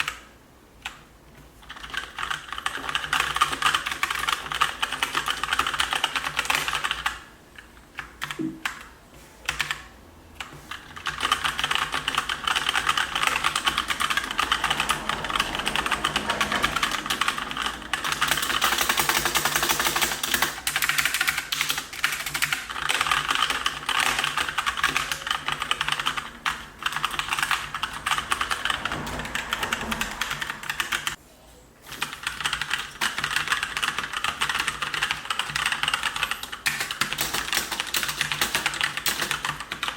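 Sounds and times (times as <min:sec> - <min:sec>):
mechanical keyboard typing: 0:00.0 - 0:01.0, 0:01.6 - 0:31.2, 0:31.9 - 0:39.9.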